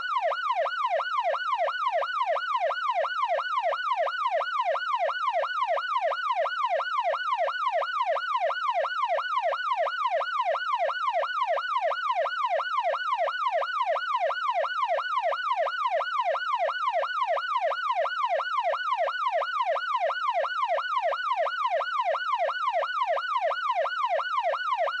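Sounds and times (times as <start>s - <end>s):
police siren yelp: 0.0s - 25.0s.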